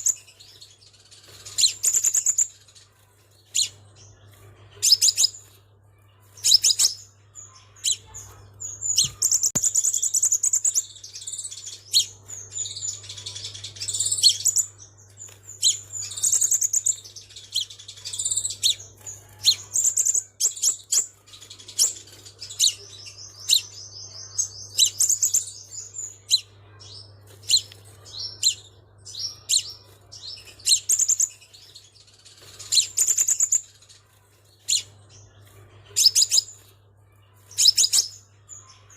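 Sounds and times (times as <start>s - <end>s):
sunbird chirping and trilling: 0.0s - 38.9s.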